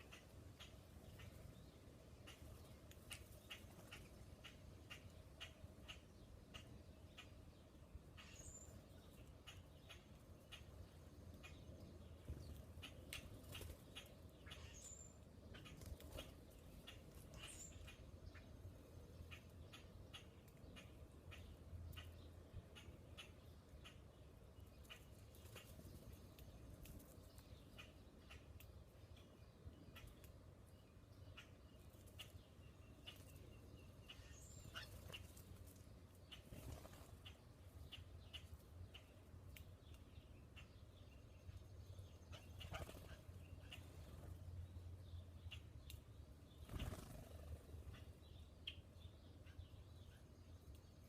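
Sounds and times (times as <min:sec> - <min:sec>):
faint bird chirps: 0:00.0 - 0:51.0.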